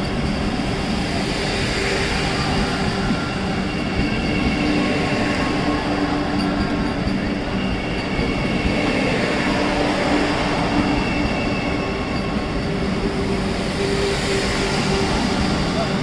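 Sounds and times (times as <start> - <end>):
train rolling rumble: 0.0 - 16.0.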